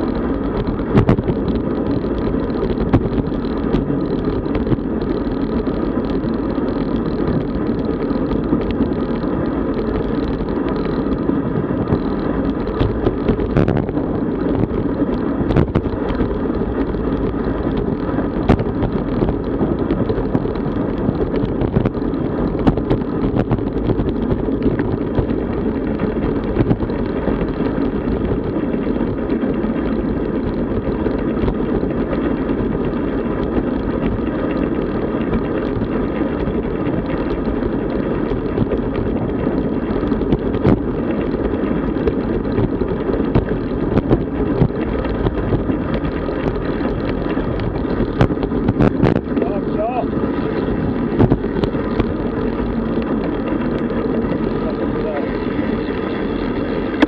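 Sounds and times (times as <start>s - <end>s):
small clicks and knocks: 0.0s - 31.8s, 32.8s - 49.6s
bicycle road noise: 0.0s - 57.0s
wind on microphone: 0.0s - 57.0s.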